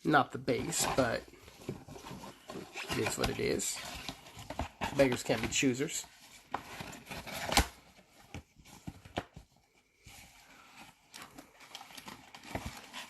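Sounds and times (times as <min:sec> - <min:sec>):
soft rustling of cards: 0:00.1 - 0:13.0.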